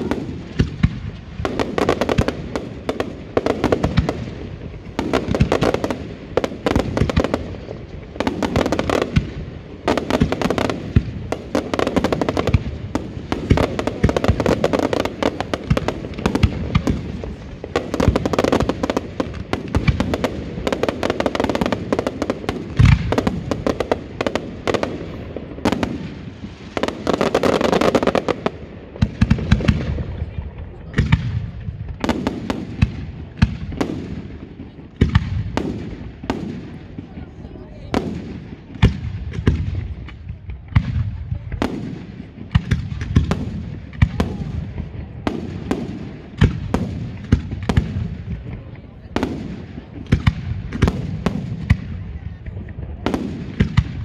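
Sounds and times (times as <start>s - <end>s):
fireworks bangs and bursts: 0.0s - 54.0s.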